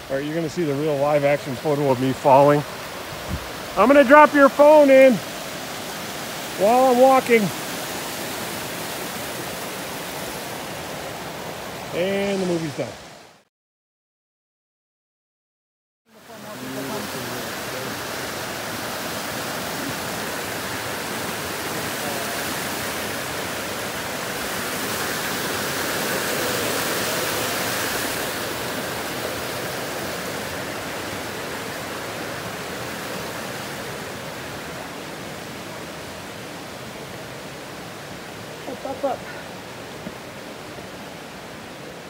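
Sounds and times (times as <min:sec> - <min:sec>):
creek rushing over rocks: 0:00.0 - 0:13.4, 0:16.1 - 0:42.0.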